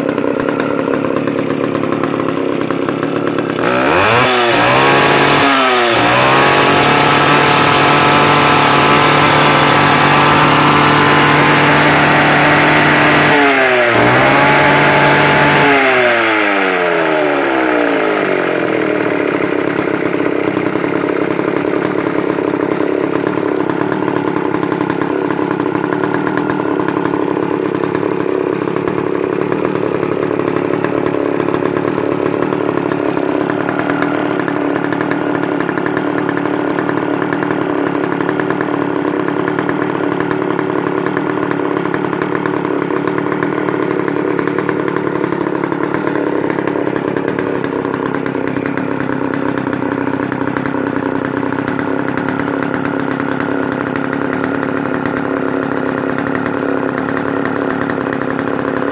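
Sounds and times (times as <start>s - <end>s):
saw engine idling: 0.0s - 58.9s.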